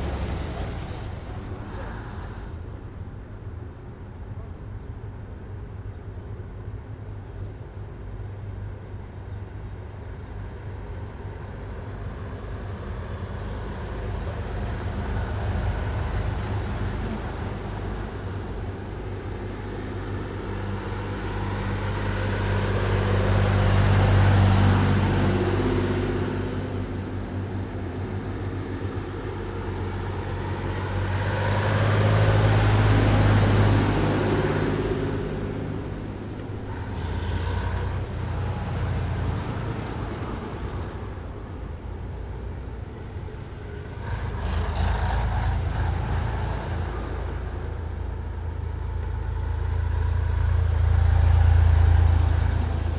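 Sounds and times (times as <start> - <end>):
heavy military vehicles driving past: 0.0 - 52.9.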